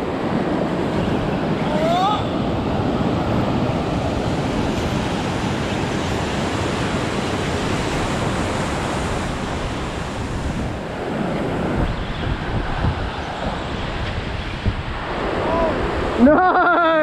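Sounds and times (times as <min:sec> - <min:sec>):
ocean surf breaking on sand: 0:00.0 - 0:17.0.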